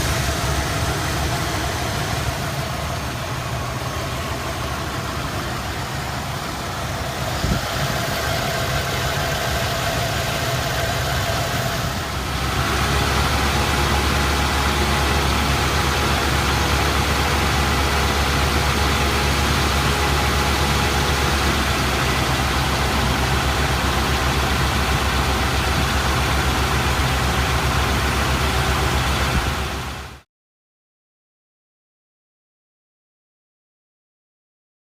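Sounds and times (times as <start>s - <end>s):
car engine idling with misfire: 0.0s - 30.2s.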